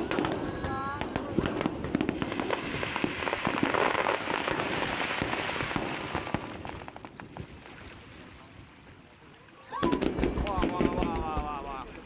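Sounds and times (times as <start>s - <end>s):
fireworks crackling: 0.0s - 7.6s, 9.8s - 12.0s.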